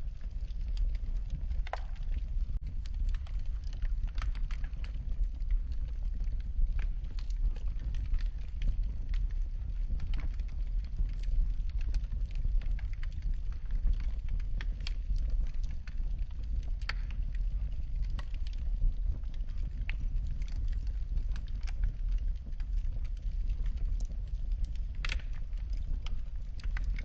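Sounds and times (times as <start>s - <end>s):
fire popping and crackling: 0.0s - 27.0s
wood fire rumbling: 0.0s - 27.0s.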